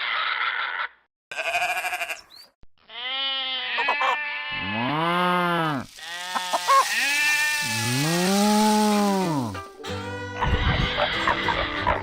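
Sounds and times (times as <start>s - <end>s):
sheep bleating: 1.3s - 12.0s.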